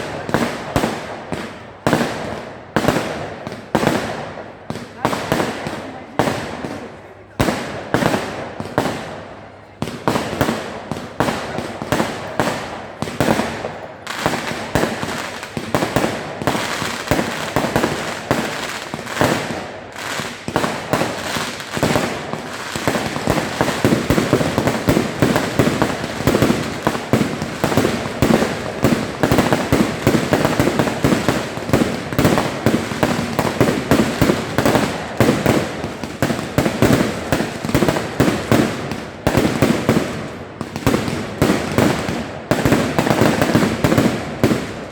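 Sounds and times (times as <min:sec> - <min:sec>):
fireworks bursting and banging: 0:00.0 - 0:44.9.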